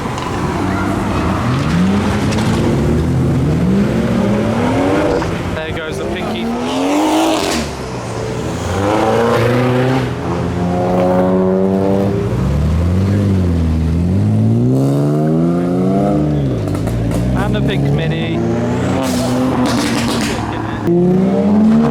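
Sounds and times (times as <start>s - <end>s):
car engines revving: 0.0s - 21.9s.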